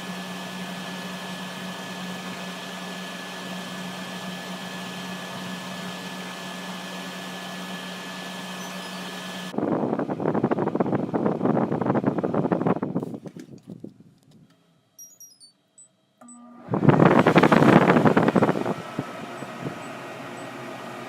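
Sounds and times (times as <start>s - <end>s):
air conditioner fan humming: 0.0s - 13.4s, 16.0s - 21.0s.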